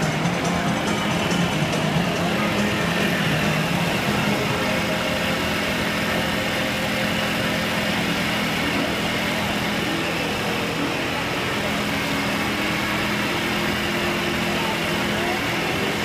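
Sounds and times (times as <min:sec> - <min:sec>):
cotton candy machine motor hum: 0:00.0 - 0:16.0.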